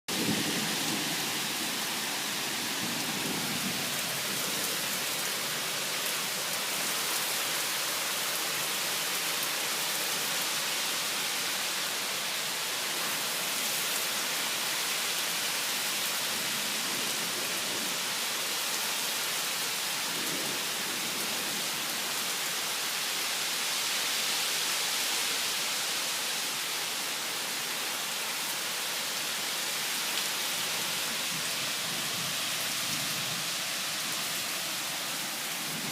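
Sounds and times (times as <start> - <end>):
heavy rain pouring: 0.1 - 35.9.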